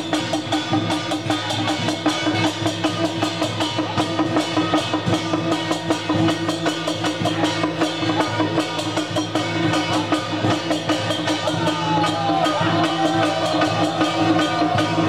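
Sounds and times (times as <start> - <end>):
procession music with rapid drumming: 0.0 - 15.0.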